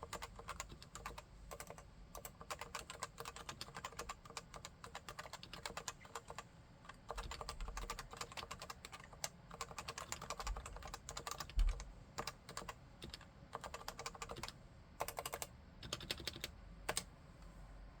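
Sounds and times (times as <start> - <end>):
keyboard typing: 0.0 - 17.1.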